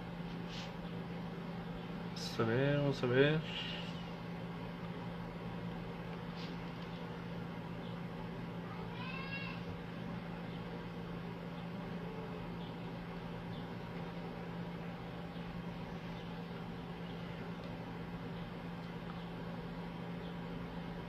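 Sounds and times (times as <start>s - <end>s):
constant low hum: 0.0s - 21.0s.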